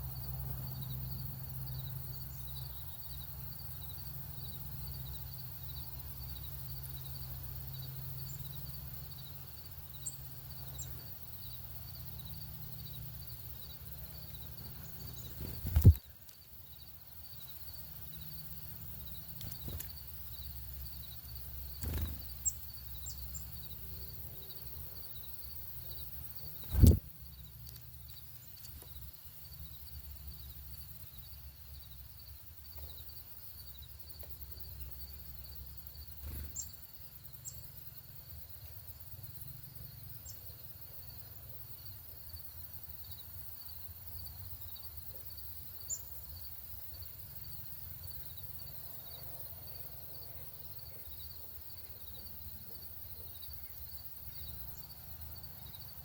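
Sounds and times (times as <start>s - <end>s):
pulsing insect trill: 0.0s - 56.0s.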